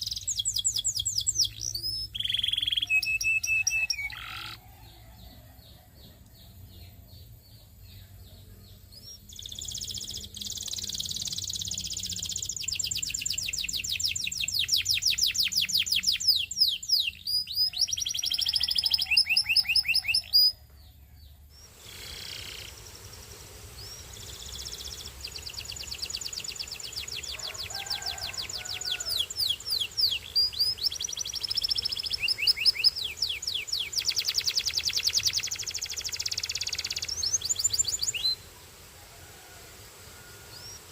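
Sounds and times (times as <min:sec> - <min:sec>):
canary trilling song: 0:00.0 - 0:08.1, 0:08.7 - 0:22.9, 0:23.8 - 0:38.4.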